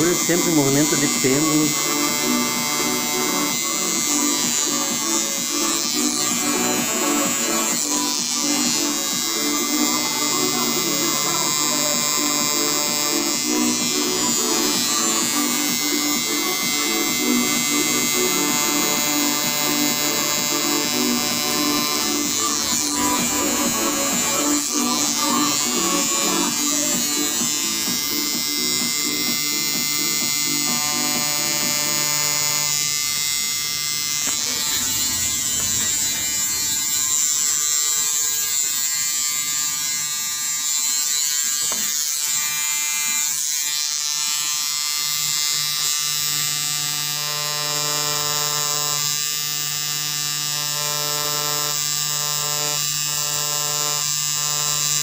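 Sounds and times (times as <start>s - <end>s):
tattoo machine buzzing: 0.0s - 55.0s.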